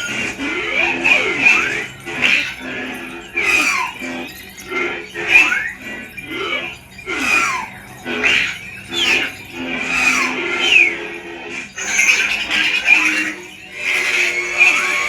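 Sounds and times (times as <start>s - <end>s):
lightsaber toy hum: 0.0s - 15.0s.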